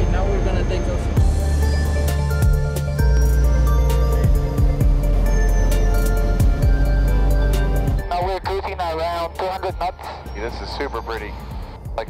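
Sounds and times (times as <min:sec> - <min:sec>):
electronic music with drum beat: 0:01.2 - 0:12.0.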